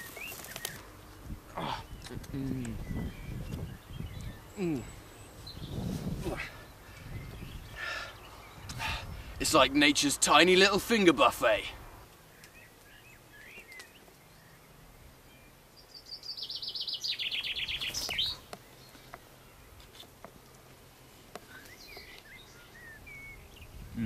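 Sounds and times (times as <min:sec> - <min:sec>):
songbird trill: 0:00.0 - 0:11.4, 0:12.1 - 0:24.0.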